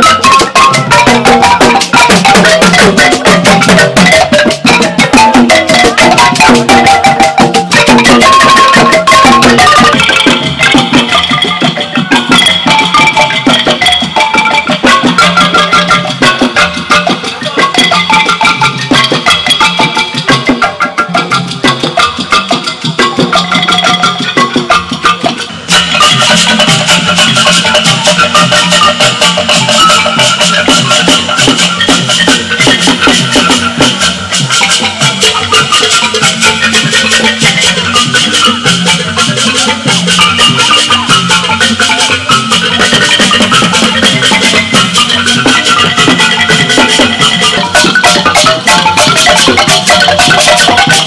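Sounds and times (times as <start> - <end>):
percussion: 0.0 - 51.0
xylophone dance tune: 0.0 - 51.0.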